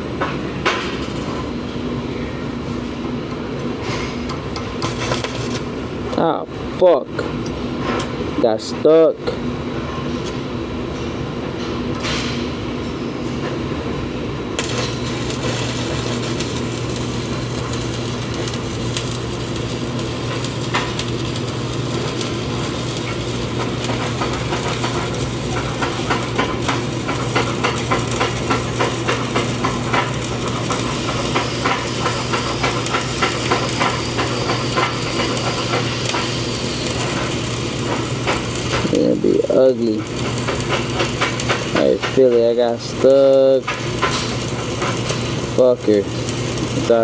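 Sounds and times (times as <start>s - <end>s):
welding arc crackling sizzle: 0.0s - 2.0s, 2.6s - 9.4s, 11.8s - 47.0s.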